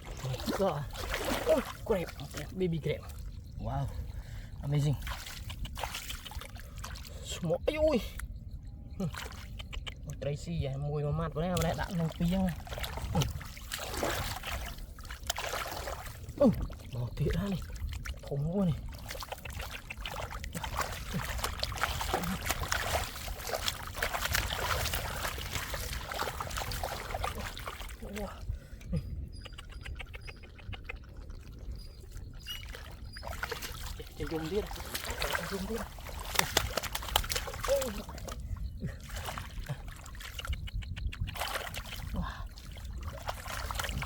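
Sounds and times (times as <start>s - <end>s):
water splashing and trickling: 0.0s - 44.0s.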